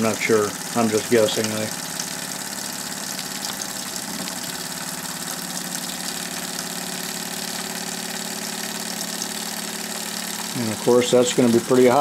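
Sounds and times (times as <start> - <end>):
model steam engine running: 0.0 - 2.9, 4.0 - 12.0.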